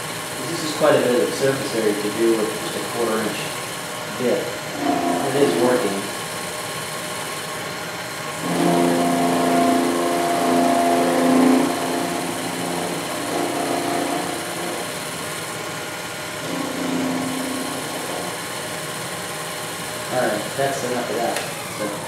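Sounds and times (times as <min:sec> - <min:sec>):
milling machine cutting metal: 0:00.0 - 0:22.0.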